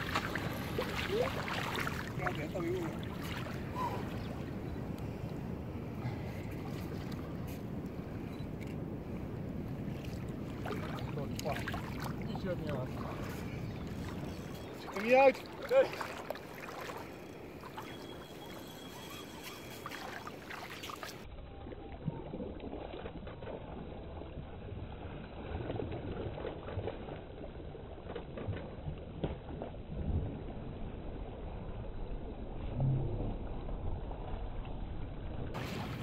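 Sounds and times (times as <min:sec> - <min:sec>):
splashes: 0:00.0 - 0:04.7, 0:09.8 - 0:34.4, 0:35.2 - 0:36.0
wind and water rumble: 0:00.0 - 0:36.0.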